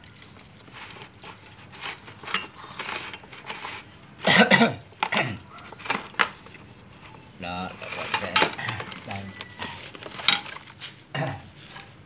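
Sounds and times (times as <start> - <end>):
metallic clinks and scrapes: 0.0 - 4.0, 5.0 - 12.0.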